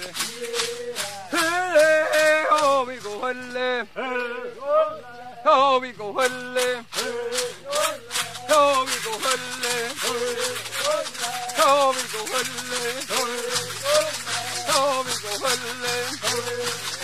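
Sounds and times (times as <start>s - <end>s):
shaker rattle beat: 0.0s - 17.0s.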